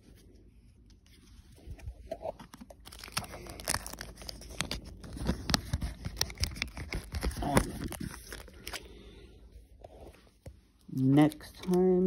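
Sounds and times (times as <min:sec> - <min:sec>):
cards rustling and scraping: 0:00.0 - 0:10.6.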